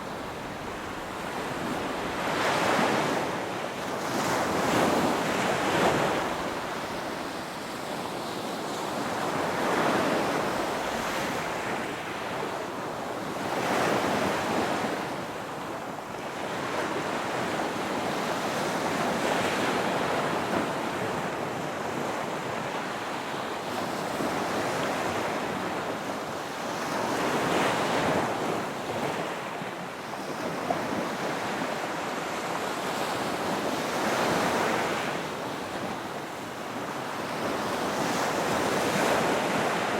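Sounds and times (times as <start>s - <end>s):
ocean waves breaking on shore: 0.0s - 39.9s
wind: 0.0s - 39.9s.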